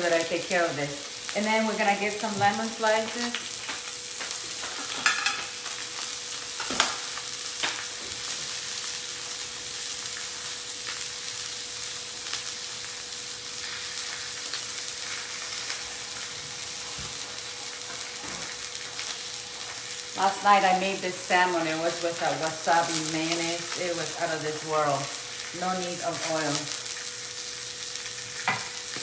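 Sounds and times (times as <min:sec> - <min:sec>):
fish sizzling in a skillet: 0:00.0 - 0:29.0.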